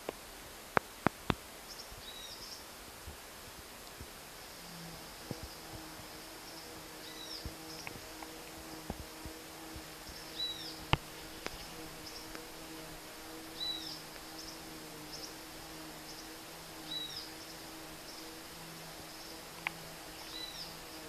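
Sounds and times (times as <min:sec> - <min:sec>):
high insect buzz: 0:00.0 - 0:21.0
low steady hum: 0:00.0 - 0:21.0.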